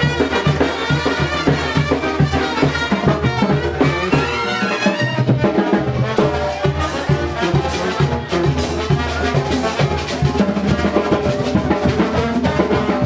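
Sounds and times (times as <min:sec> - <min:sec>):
dance music with drums and brass: 0:00.0 - 0:13.0.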